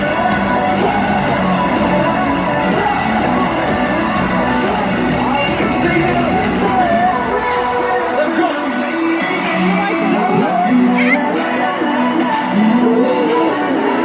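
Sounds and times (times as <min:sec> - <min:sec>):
live pop music with singing: 0:00.0 - 0:14.0.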